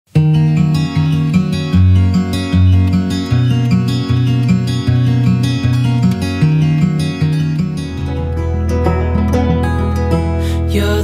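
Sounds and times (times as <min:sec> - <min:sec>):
plucked guitar song: 0:00.1 - 0:11.0
bass line: 0:00.2 - 0:11.0.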